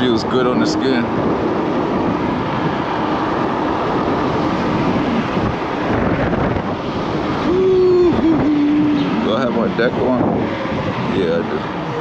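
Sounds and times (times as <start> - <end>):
road noise: 0.0 - 12.0
wind rushing over microphone: 0.0 - 12.0.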